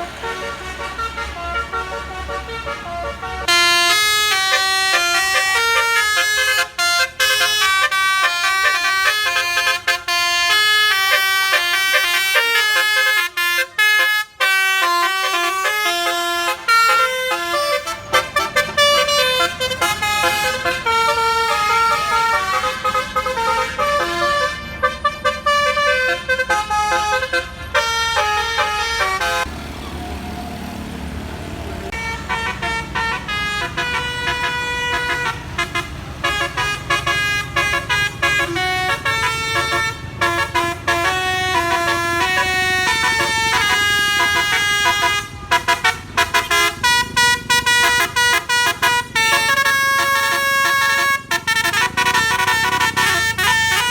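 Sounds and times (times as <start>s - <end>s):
musical bus air horns: 0.0s - 29.6s, 31.7s - 53.9s
bus engine rumble: 0.0s - 53.9s.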